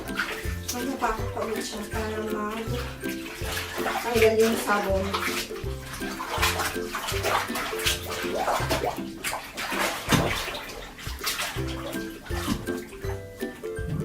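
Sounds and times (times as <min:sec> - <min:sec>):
background music: 0:00.0 - 0:14.0
water sloshing in bathtub: 0:00.0 - 0:14.0.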